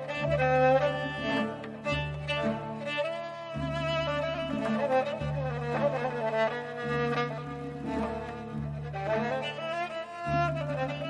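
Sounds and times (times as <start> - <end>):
bowed fiddle melody: 0.0 - 11.0
low sustained bass notes: 0.0 - 11.0.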